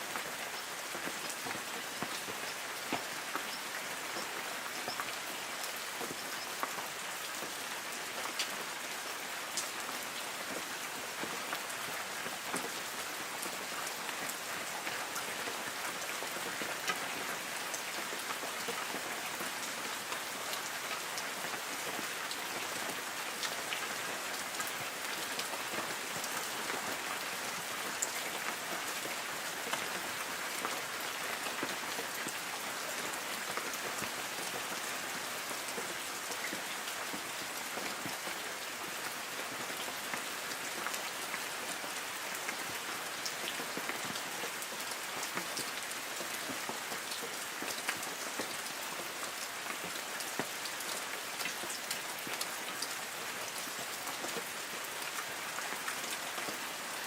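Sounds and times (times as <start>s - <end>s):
light rain patter: 0.0s - 57.0s
raindrops ticking on leaves: 0.0s - 57.0s.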